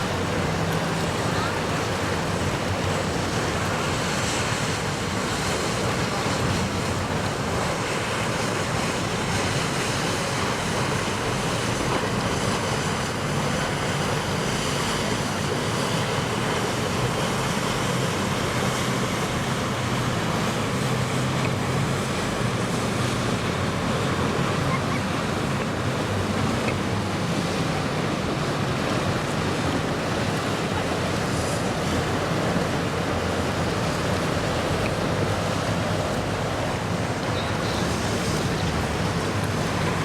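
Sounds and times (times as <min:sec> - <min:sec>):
boat engines droning: 0:00.0 - 0:40.0
waves rushing: 0:00.0 - 0:40.0.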